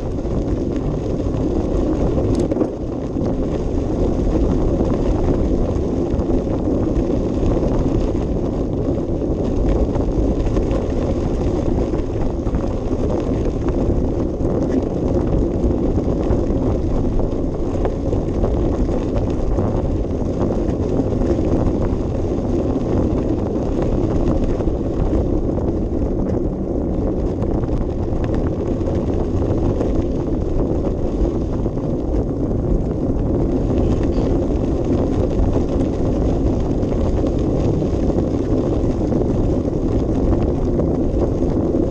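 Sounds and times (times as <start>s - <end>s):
bicycle tyres rumbling and rattling: 0.0s - 41.9s
wind on microphone: 0.0s - 41.9s.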